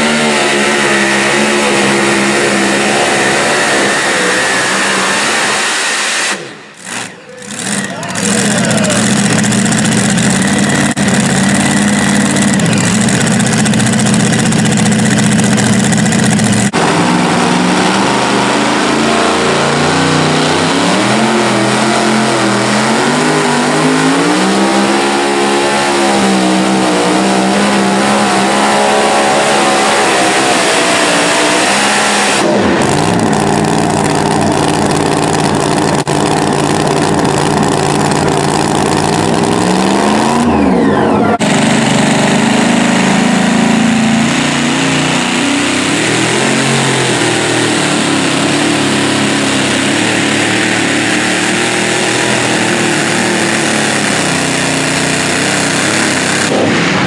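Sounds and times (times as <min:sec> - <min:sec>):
supercharged truck engines revving: 0:00.0 - 0:57.0.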